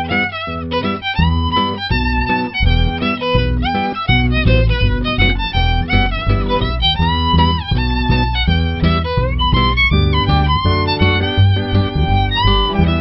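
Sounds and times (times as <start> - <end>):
violin-led tune over a beat: 0.0 - 13.0.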